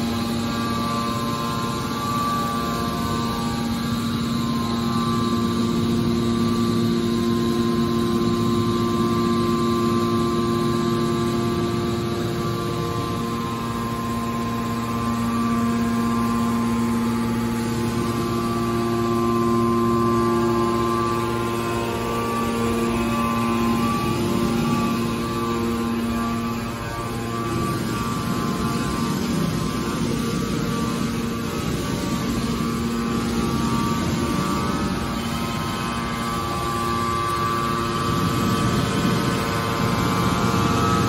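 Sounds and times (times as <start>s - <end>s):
hydraulic pump motor humming: 0.0s - 41.0s.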